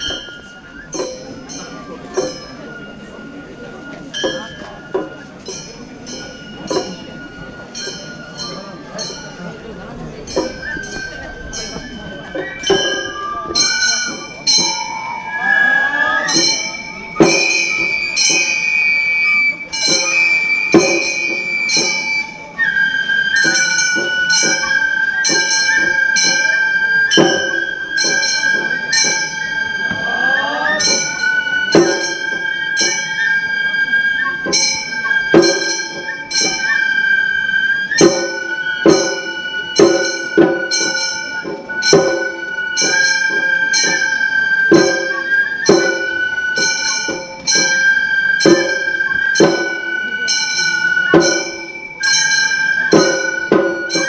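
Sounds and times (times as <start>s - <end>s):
bamboo flute long notes: 0.0s - 54.0s.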